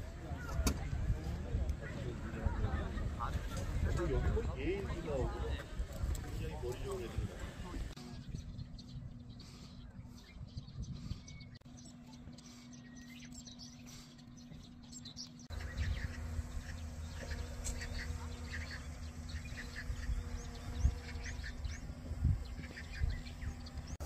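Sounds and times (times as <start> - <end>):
wind rumble on microphone: 0.0 - 14.9, 15.5 - 24.0
small birds chirping: 0.0 - 24.0.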